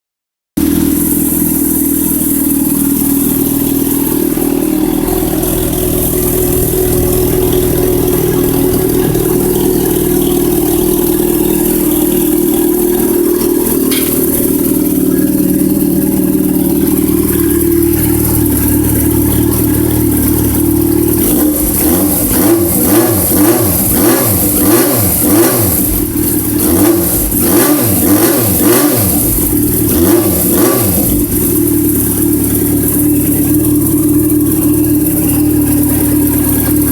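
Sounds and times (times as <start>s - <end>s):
motorcycle engine idling and revving: 0.6s - 36.9s.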